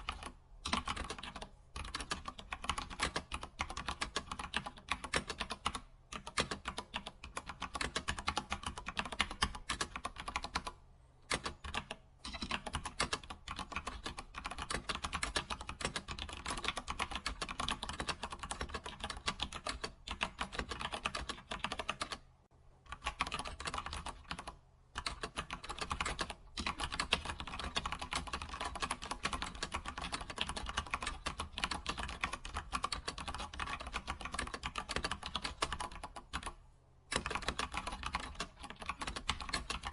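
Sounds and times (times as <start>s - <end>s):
typing on computer keyboard: 0.0s - 22.2s, 22.9s - 39.9s.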